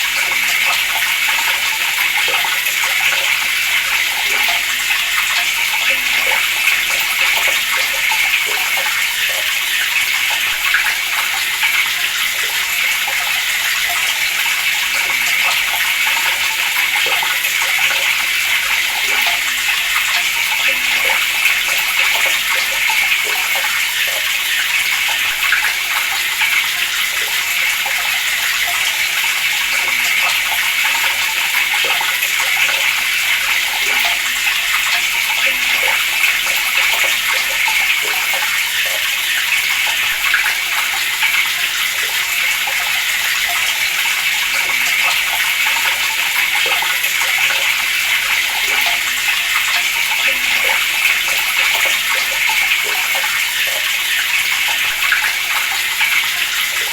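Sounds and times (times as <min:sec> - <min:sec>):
water running from a tap: 0:00.0 - 0:56.9.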